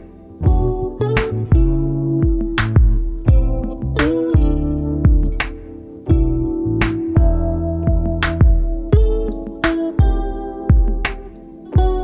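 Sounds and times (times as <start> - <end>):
low kick drum thumps: 0.4 - 12.0.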